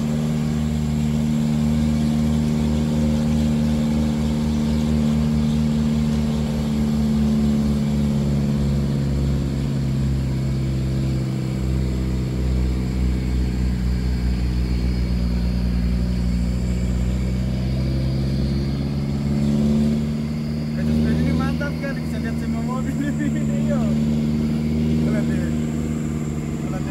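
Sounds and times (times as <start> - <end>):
truck engine running: 0.0 - 26.9.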